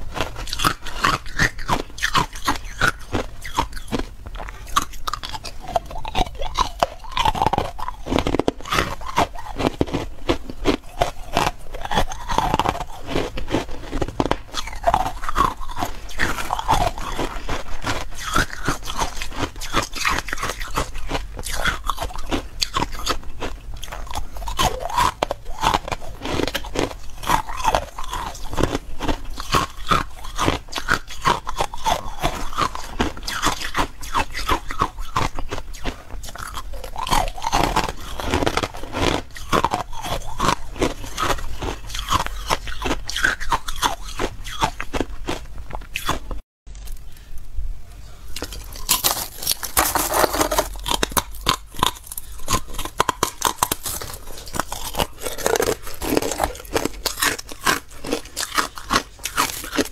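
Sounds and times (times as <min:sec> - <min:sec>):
person chewing crunchy ice: 0:00.0 - 0:47.0, 0:48.3 - 0:59.9.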